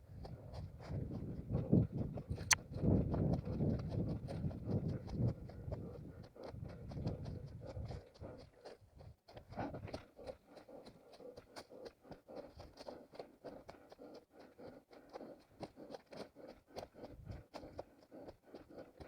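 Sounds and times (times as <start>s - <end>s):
running footsteps on forest ground: 0.0s - 19.0s.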